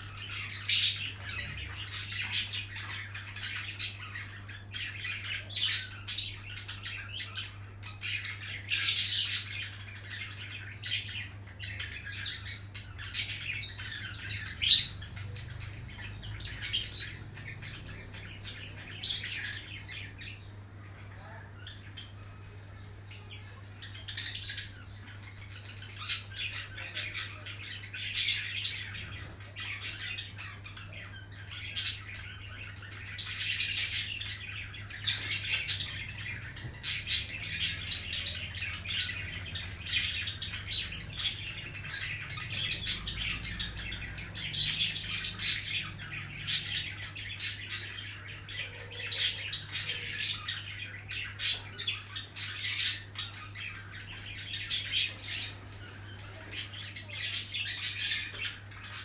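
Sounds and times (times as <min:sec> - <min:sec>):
birds chirping and squawking: 0:00.0 - 0:59.0.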